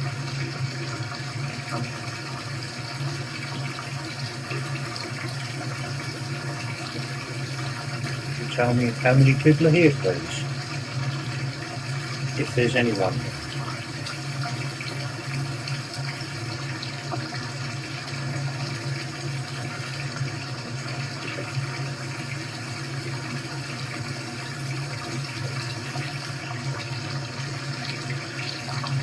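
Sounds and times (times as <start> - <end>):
running water from speakers: 0.0 - 29.0.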